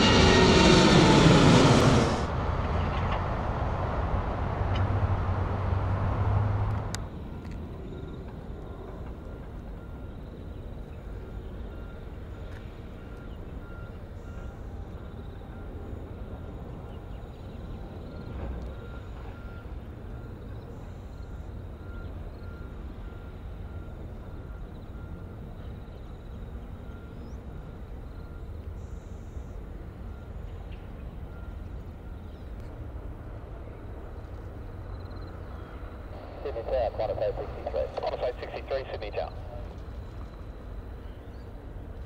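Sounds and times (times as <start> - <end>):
jet engines rumbling: 0.0 - 28.8, 29.5 - 42.0
faint high whine: 7.0 - 42.0.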